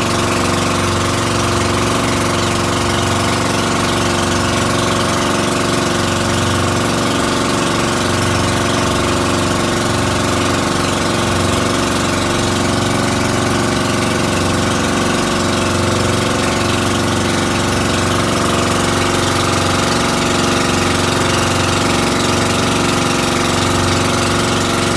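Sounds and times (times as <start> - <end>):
boat engine running: 0.0 - 24.9
water and wind noise: 0.0 - 24.9.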